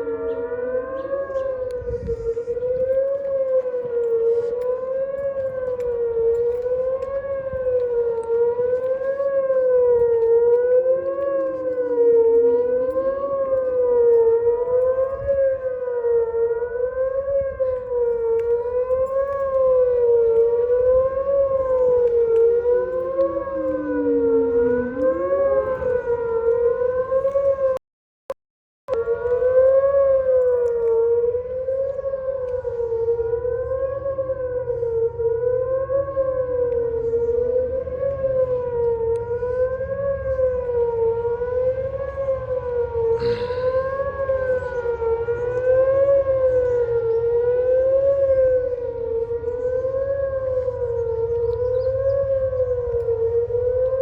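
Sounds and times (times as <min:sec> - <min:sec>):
faint siren sliding down: 0:00.0 - 0:27.8, 0:28.9 - 0:54.0
loud wailing siren: 0:00.0 - 0:27.8, 0:28.9 - 0:54.0.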